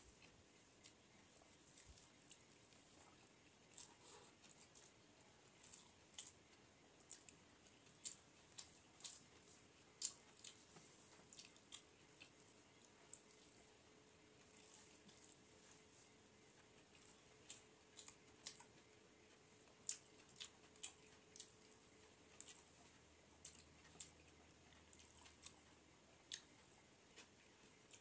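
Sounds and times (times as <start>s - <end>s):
fingers squishing rice and gravy: 0.0s - 28.0s.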